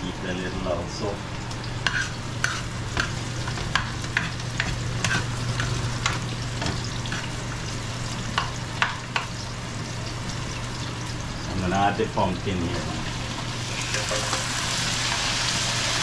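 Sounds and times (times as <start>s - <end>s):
onion sizzling in pan: 0.0s - 16.0s.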